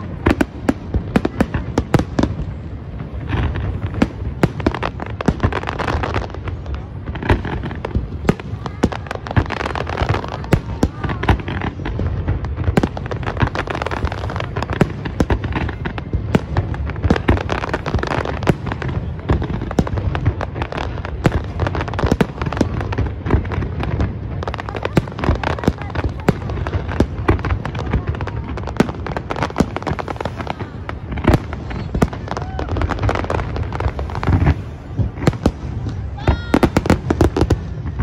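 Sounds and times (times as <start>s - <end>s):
fireworks crackle: 0.0s - 38.0s.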